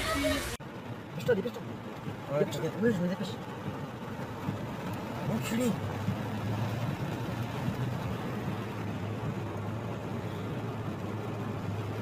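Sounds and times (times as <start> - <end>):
continuous rushing noise: 0.0 - 12.0
low engine hum: 0.0 - 12.0.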